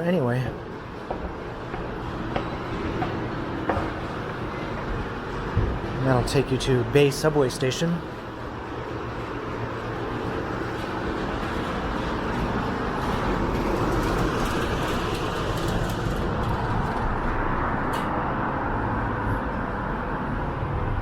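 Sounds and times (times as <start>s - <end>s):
vehicle rumble and hiss: 0.2s - 21.0s.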